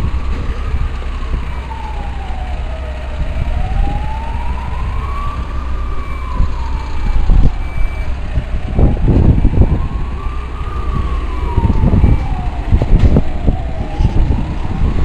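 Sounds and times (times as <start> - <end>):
emergency siren wailing: 0.0 - 15.0
steady low rumble: 0.0 - 15.0.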